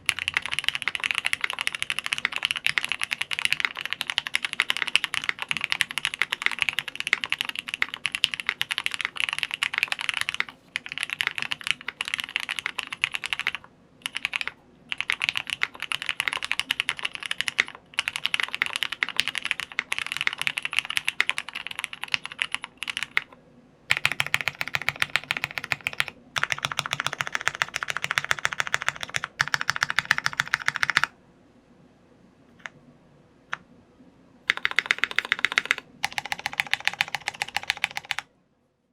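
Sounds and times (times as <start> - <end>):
mechanical keyboard typing: 0.0 - 31.1, 34.5 - 38.3.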